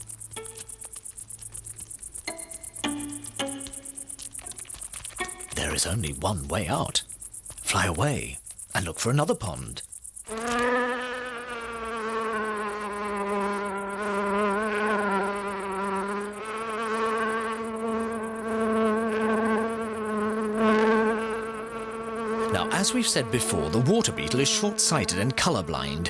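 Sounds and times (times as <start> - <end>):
water beetle wing buzz: 0.0 - 26.0.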